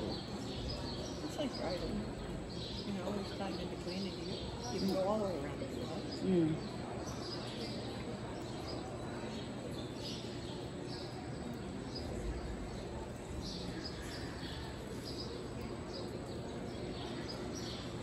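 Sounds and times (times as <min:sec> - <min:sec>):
small birds chirping: 0:00.0 - 0:18.0
steady background hum: 0:00.0 - 0:18.0.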